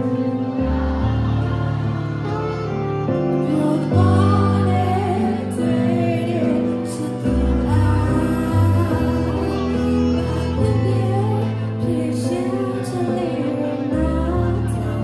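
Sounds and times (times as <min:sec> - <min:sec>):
amplified backing music: 0:00.0 - 0:15.0
woman singing into microphone: 0:01.1 - 0:15.0.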